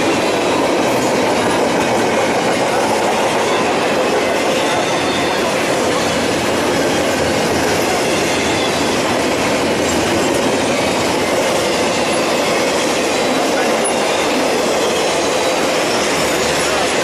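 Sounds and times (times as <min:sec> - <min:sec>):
train wheels rumbling and clattering: 0:00.0 - 0:17.0.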